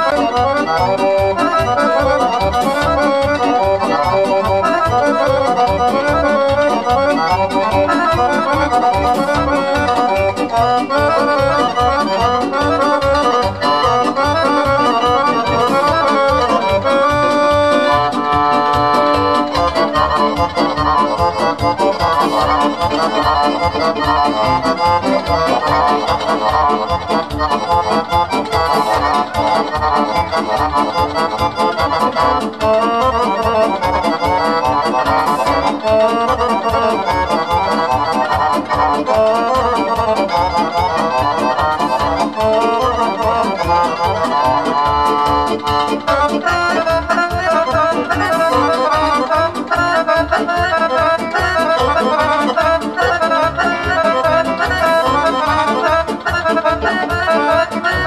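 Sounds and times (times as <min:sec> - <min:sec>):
folk dance music with accordion: 0:00.0 - 0:58.0.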